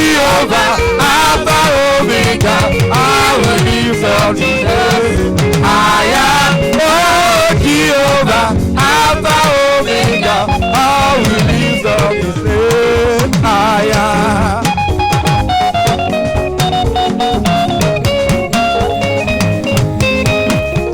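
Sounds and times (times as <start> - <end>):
person singing: 0.0 - 14.8, 17.0 - 20.9
guitar: 0.0 - 20.9
steady drum beat: 0.1 - 20.9.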